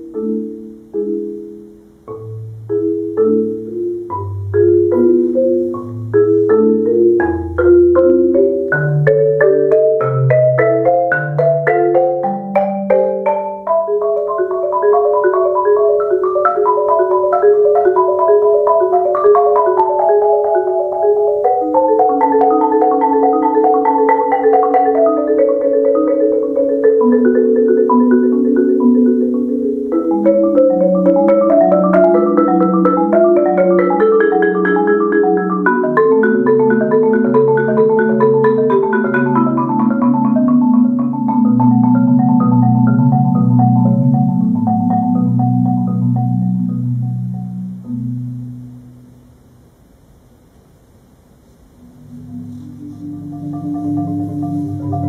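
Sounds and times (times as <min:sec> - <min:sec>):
marimba rolled notes: 0:00.0 - 0:49.2, 0:51.8 - 0:55.0.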